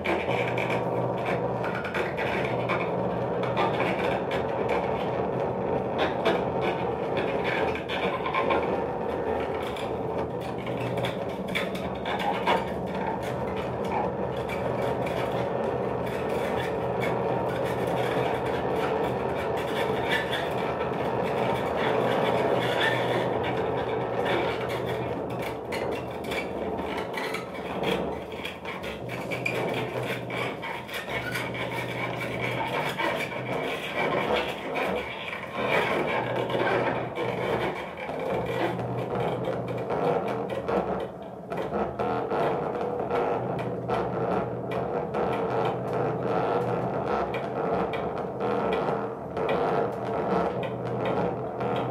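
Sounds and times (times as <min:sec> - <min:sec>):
steady low tones: 0:00.0 - 0:32.6, 0:33.4 - 0:51.9
cello bowed scraping: 0:00.0 - 0:51.9.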